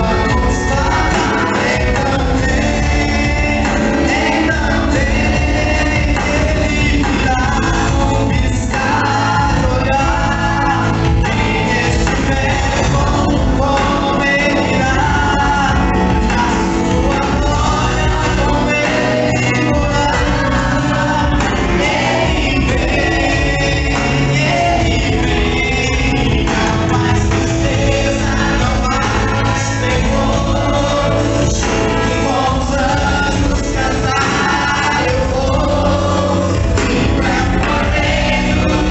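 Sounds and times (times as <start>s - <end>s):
gospel singing with instruments: 0.0s - 38.9s.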